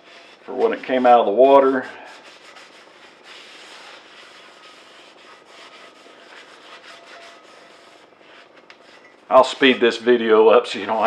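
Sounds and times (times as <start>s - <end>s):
filter scrubbing oil on skillet: 0.0s - 11.0s.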